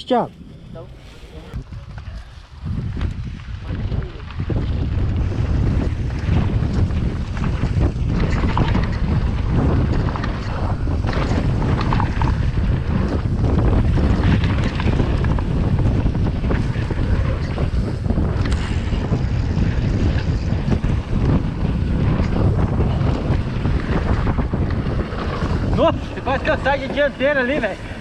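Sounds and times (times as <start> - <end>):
bike rumble: 0.0 - 28.0
wind rushing over microphone: 0.0 - 28.0
bike knocks and rattles: 4.4 - 28.0.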